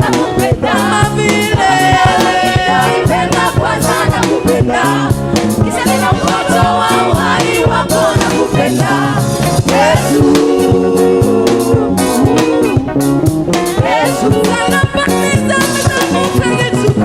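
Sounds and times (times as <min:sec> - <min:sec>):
band with steady beat and bass: 0:00.0 - 0:17.0
gospel singing: 0:00.0 - 0:17.0.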